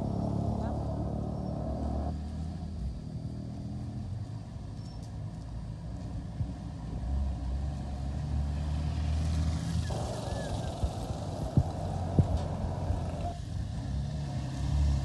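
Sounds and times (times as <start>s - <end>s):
dump truck engine rumbling: 0.0s - 4.6s, 6.2s - 15.0s.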